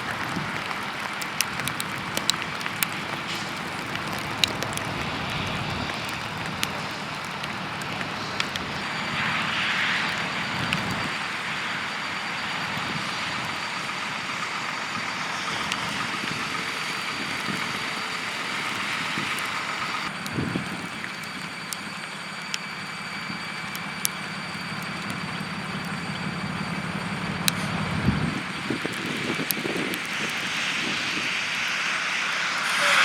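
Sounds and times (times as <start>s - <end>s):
traffic on slushy road: 0.0s - 33.0s.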